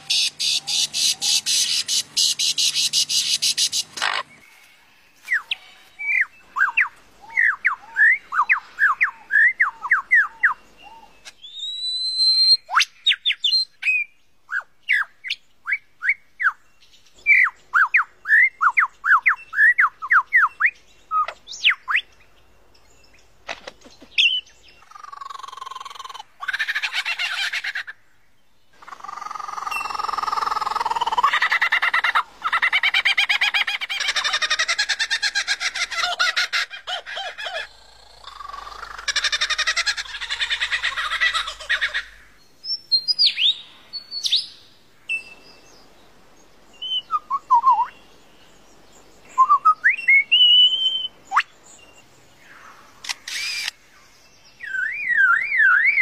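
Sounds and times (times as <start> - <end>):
lyrebird singing: 0.0 - 4.6, 5.2 - 27.9, 28.7 - 45.8, 46.8 - 56.0.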